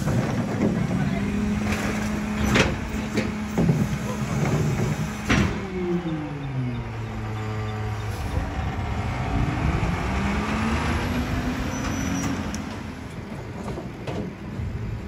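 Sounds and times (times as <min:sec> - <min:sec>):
garbage truck diesel engine revving: 0:00.0 - 0:13.6.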